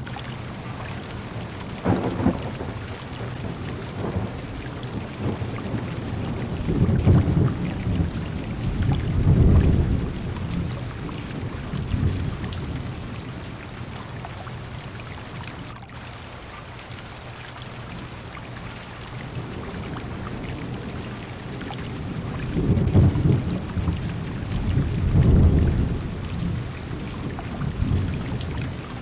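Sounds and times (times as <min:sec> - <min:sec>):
rain pattering on car window: 0:00.0 - 0:29.0
rolling thunder: 0:00.1 - 0:14.5, 0:19.2 - 0:29.0.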